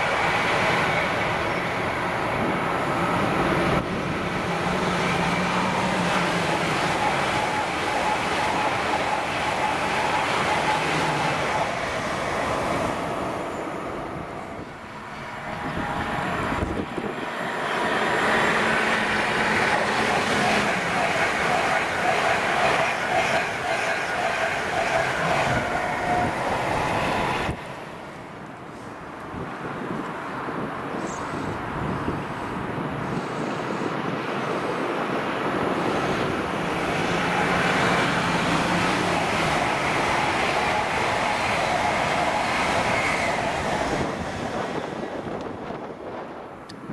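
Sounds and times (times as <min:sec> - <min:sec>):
train wheels rushing on rails: 0:00.0 - 0:46.9.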